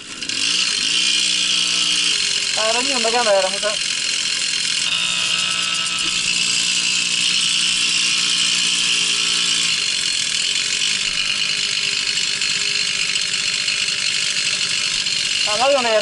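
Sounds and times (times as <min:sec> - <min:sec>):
moped engine running: 0:00.0 - 0:16.0.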